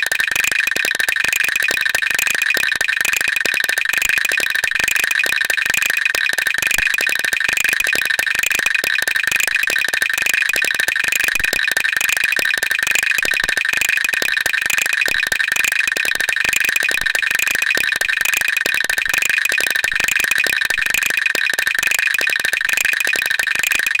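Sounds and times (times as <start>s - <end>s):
rapid teeth-chattering clicks: 0.0s - 24.0s.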